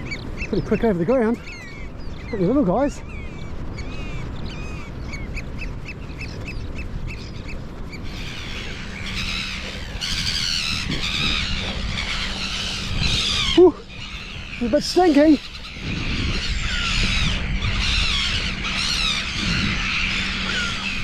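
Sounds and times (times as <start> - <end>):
flock of harsh bird calls: 0.0 - 21.0
shorebirds piping: 0.0 - 21.0.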